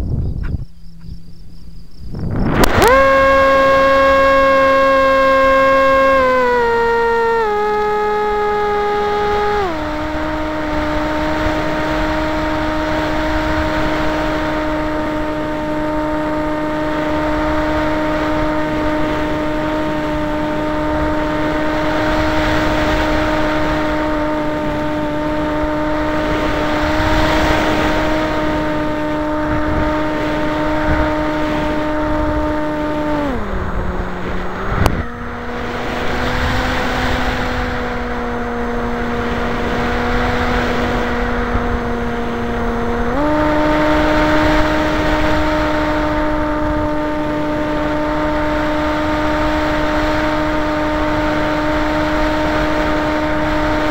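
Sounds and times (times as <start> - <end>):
propeller motor drone: 0.0 - 53.9
wind rushing past microphone: 0.0 - 53.9.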